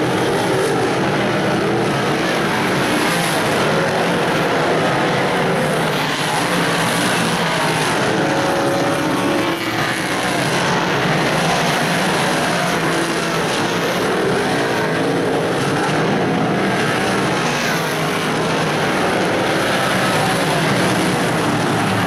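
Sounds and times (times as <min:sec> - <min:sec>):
race car engines at full throttle: 0:00.0 - 0:22.0.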